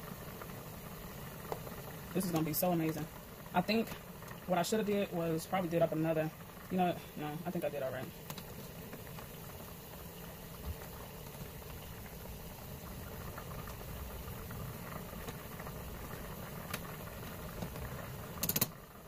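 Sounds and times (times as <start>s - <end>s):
water bubbling at a rolling boil: 0.0s - 19.0s.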